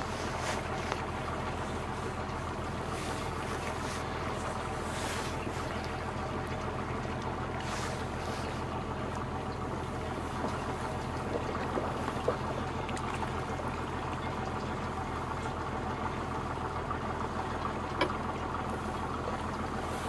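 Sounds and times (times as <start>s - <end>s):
boat engine droning: 0.0s - 20.0s
water washing along hull: 0.0s - 20.0s.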